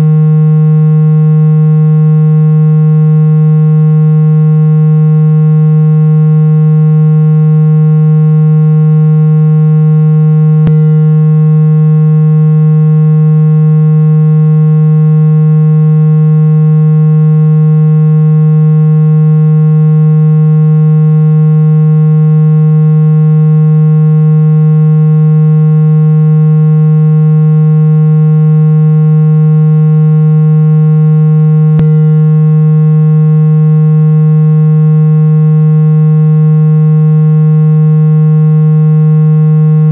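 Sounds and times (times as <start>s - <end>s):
low synthesized humming tone: 0.0s - 39.9s.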